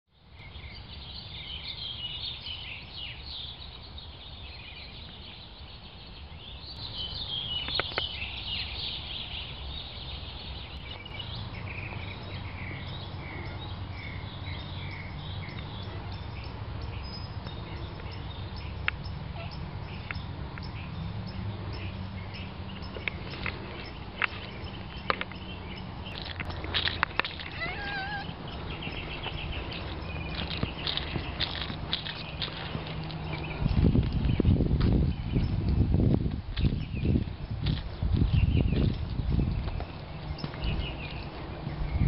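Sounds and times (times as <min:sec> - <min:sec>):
songbirds chirping: 0:00.1 - 0:42.0.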